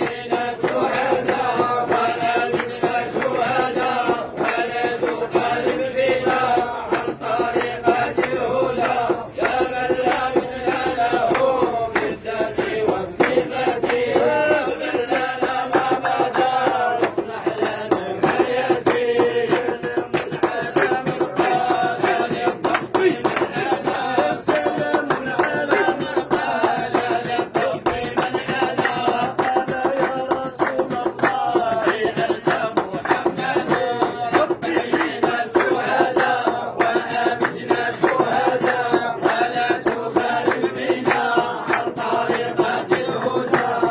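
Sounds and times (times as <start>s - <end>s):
fast percussive beat: 0.0s - 43.9s
men chanting together: 0.0s - 43.9s.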